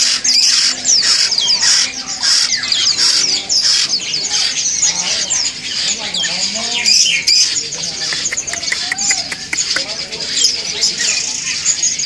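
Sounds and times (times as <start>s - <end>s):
birds squawking and chirping: 0.0s - 12.0s.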